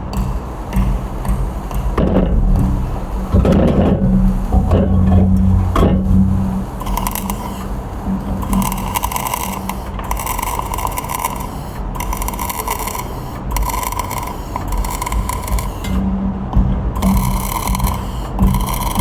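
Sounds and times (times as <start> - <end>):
low steady hum: 0.0 - 19.0
welding arc crackling sizzle: 0.0 - 19.0.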